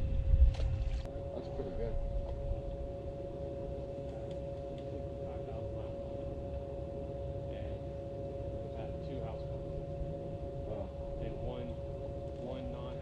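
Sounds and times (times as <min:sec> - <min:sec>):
low rumble: 0:00.0 - 0:13.0
small electric motor whine: 0:00.0 - 0:13.0.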